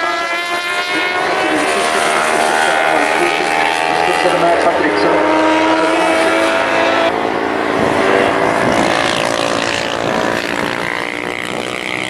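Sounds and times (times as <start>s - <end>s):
racing motorcycles at high revs: 0.0s - 12.0s.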